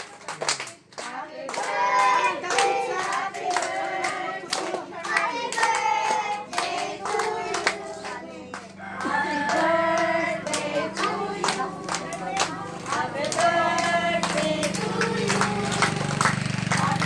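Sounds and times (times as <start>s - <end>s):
people clapping in rhythm: 0.0s - 17.0s
people singing together: 1.0s - 16.4s.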